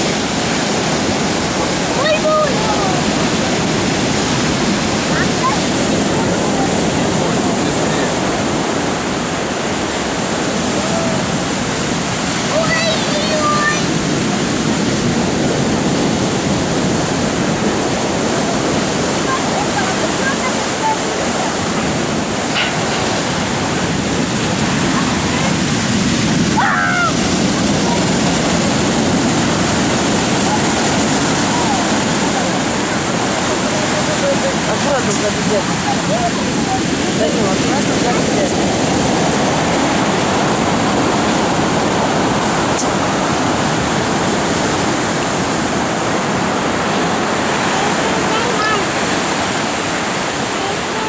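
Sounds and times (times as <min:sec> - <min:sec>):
large waves breaking: 0:00.0 - 0:51.0.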